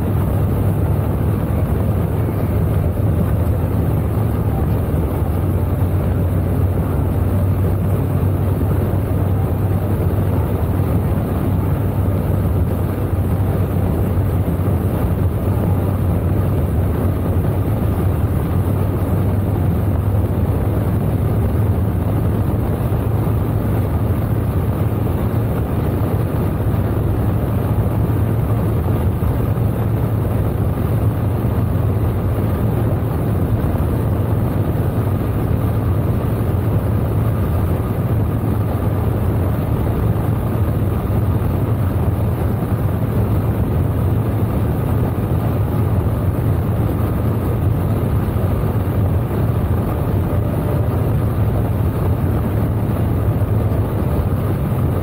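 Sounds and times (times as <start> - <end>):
motorcycle engine drone: 0.0 - 55.0
road noise: 0.0 - 55.0
wind noise: 0.0 - 55.0.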